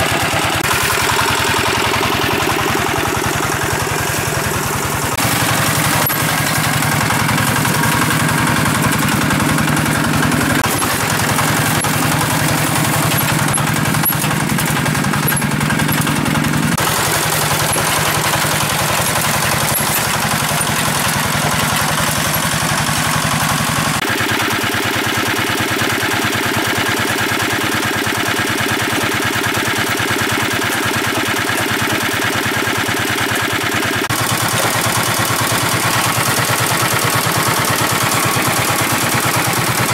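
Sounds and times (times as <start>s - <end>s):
water pump engine running: 0.0s - 39.9s.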